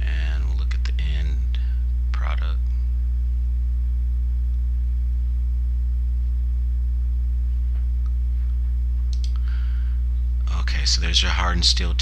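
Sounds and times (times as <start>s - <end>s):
mains hum: 0.0s - 12.0s.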